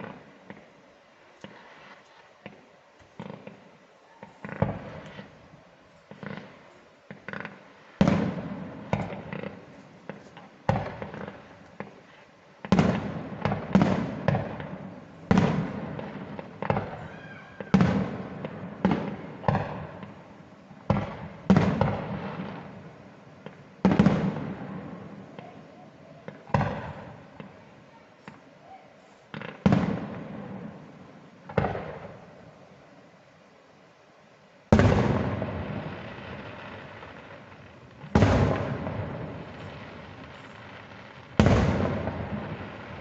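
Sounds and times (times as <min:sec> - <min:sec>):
fireworks bangs with rumbling echo: 0:00.0 - 0:00.8, 0:01.4 - 0:28.5, 0:29.3 - 0:32.6, 0:34.7 - 0:43.0.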